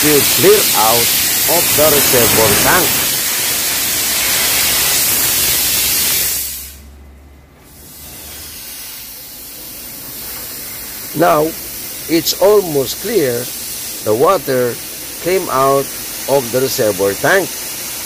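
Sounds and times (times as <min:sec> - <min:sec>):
hissing spray of water and air: 0:00.0 - 0:06.8, 0:10.0 - 0:18.0.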